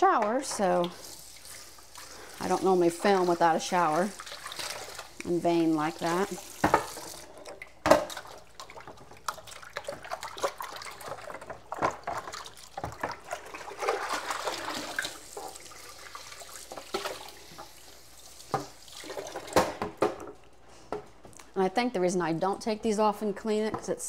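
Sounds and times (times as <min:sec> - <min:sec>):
water running and splashing: 0:00.2 - 0:19.8.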